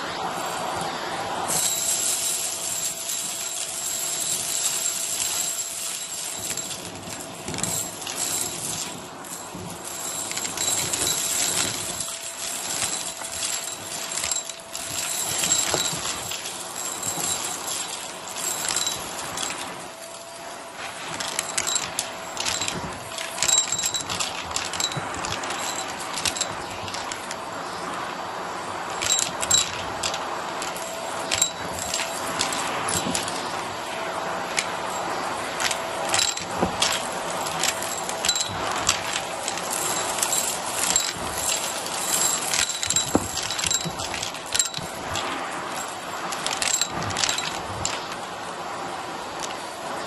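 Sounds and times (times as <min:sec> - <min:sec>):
debris rattling through nozzle: 0:00.0 - 0:48.4
vacuum cleaner running: 0:00.0 - 0:50.0.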